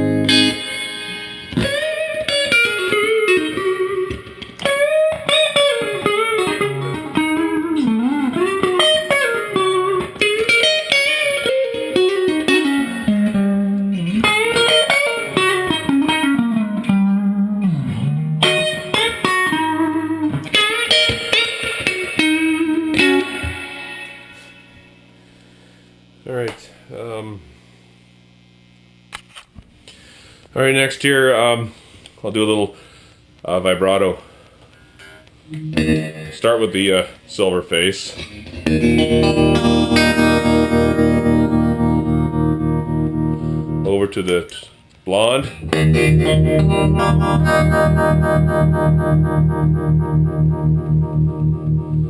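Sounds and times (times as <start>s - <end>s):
clean electric guitar: 0.0s - 30.1s, 34.7s - 52.0s.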